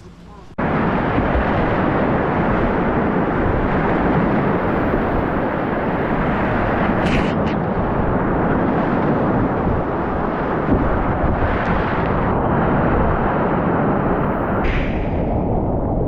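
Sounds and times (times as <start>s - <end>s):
whitewater rushing and rumbling: 0.0s - 16.0s
wind buffeting microphone: 0.0s - 16.0s.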